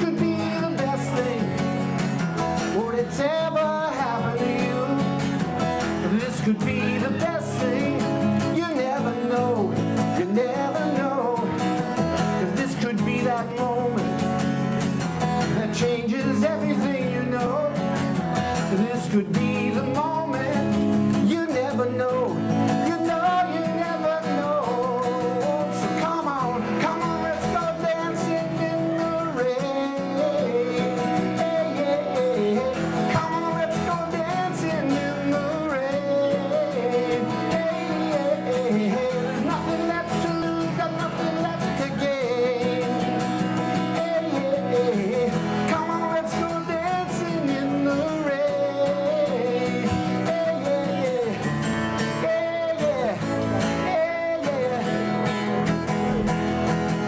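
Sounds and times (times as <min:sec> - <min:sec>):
acoustic guitar: 0:00.0 - 0:57.0
man singing: 0:00.0 - 0:57.0.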